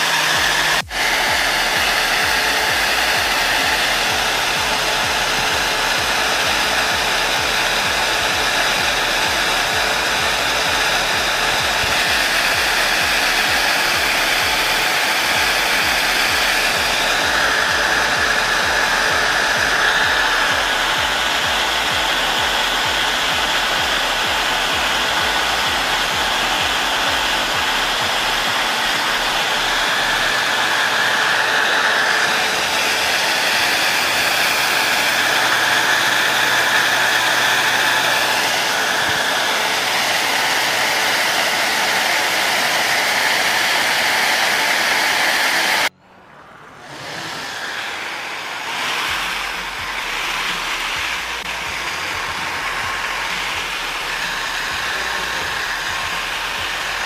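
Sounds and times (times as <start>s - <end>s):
faint motor whine: 0.0s - 57.0s
fan air rushing: 0.0s - 57.0s.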